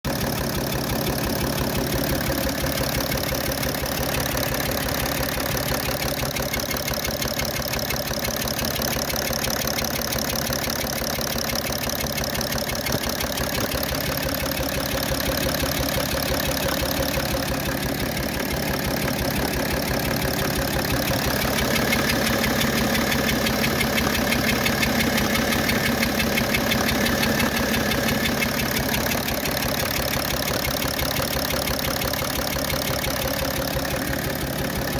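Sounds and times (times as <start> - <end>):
diesel engine idling clatter: 0.0 - 34.9
engine grinding noise: 0.0 - 34.9.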